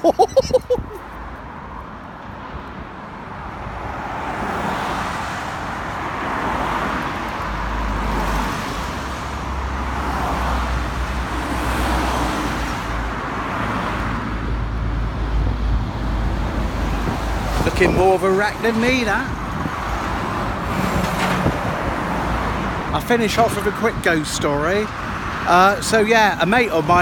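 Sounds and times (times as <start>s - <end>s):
cars passing by: 0.0s - 27.0s.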